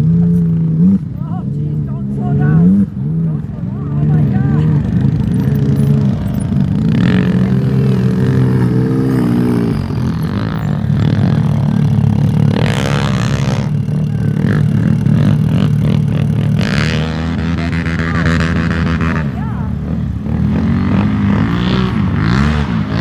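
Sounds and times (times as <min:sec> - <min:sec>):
atv engines revving: 0:00.0 - 0:23.0.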